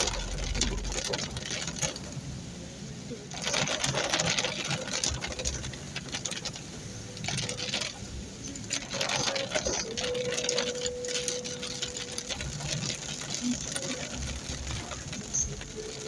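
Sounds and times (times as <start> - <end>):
heavy rain on a car: 0.0 - 16.0.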